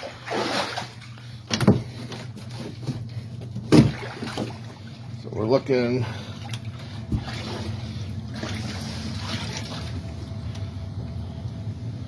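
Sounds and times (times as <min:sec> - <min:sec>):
water sloshing: 0:00.0 - 0:11.2
steady low hum: 0:00.0 - 0:12.0.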